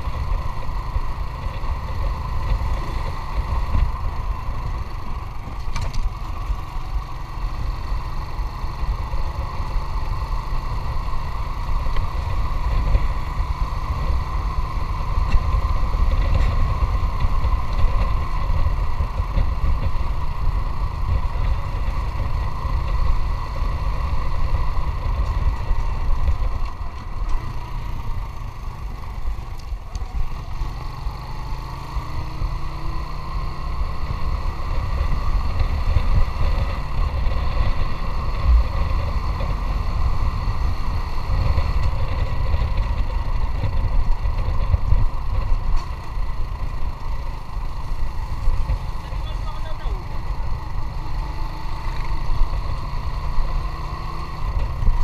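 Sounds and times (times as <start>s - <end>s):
motorcycle engine rumbling: 0.0s - 55.0s.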